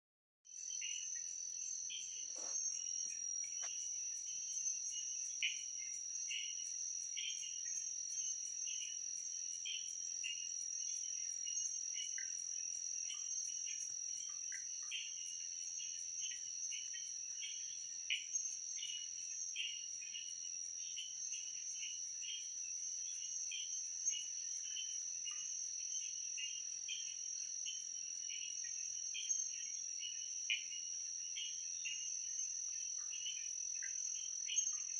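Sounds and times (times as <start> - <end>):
crickets trilling: 0.5 - 34.9
insects chirping: 0.5 - 34.9.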